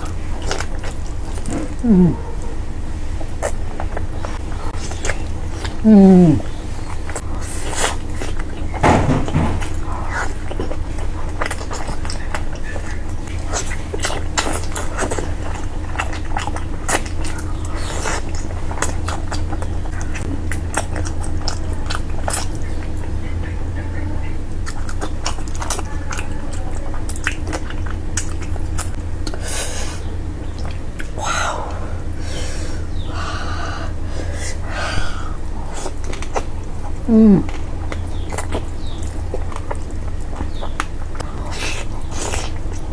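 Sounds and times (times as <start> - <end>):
person chewing food: 0.0 - 23.5, 24.6 - 42.9
low steady hum: 0.0 - 42.9.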